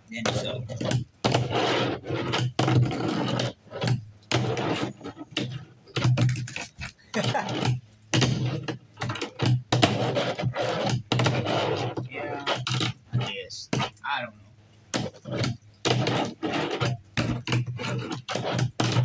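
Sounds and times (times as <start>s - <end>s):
plastic wheels rolling on table: 0.2s - 14.0s, 15.0s - 19.0s.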